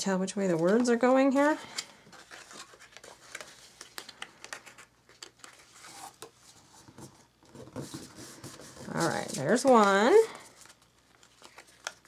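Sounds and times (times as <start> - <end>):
paper rustling: 0.5 - 12.0.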